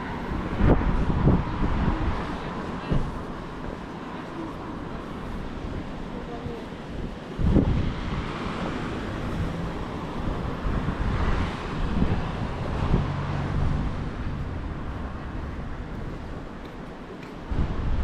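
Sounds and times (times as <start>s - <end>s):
road traffic passing: 0.0s - 18.0s
wind rumbling on microphone: 0.0s - 18.0s.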